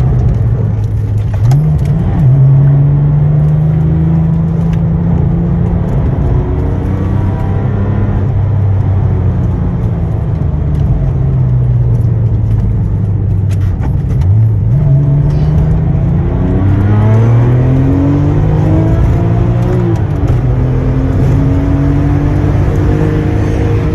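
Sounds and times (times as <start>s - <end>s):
car engine revving in cabin: 0.0s - 23.9s.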